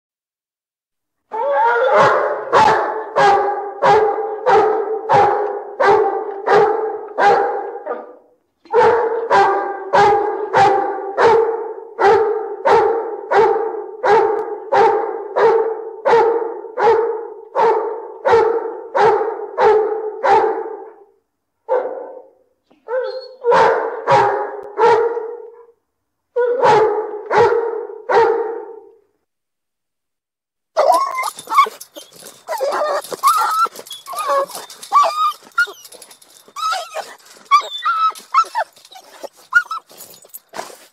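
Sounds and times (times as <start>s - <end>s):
large dog barking: 1.3s - 29.0s, 30.8s - 40.8s.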